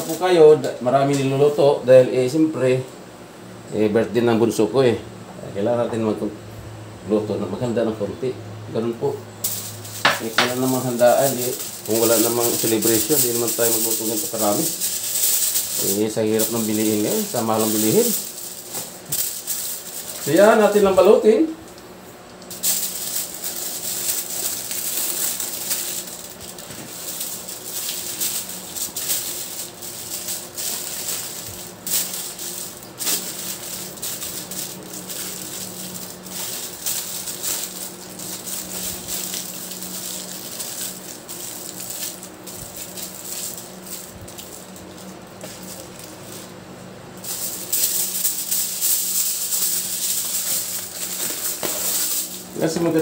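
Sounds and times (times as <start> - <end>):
aluminium foil crinkling: 0.0 - 1.6, 9.4 - 46.6, 47.2 - 53.0.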